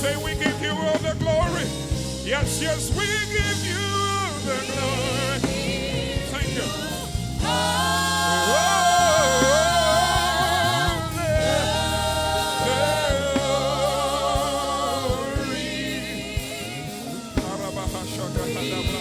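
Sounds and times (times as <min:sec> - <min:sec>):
band chords and bass line: 0:00.0 - 0:19.0
person singing gospel: 0:00.0 - 0:19.0.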